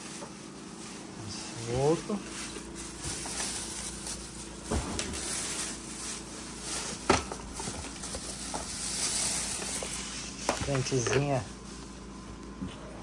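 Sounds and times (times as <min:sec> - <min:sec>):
packaging rustling: 0:00.0 - 0:11.4.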